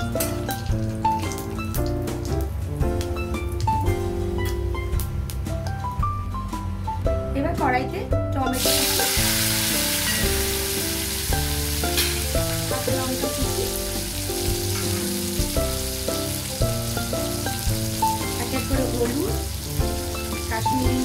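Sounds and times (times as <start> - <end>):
tomatoes sizzling in hot oil: 0.0 - 6.0, 8.5 - 21.0
background music: 0.0 - 21.0.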